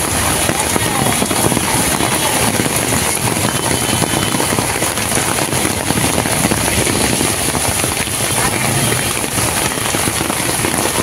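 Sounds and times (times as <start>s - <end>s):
rain falling on flooded street: 0.0s - 11.0s
vehicle engines running: 0.0s - 11.0s.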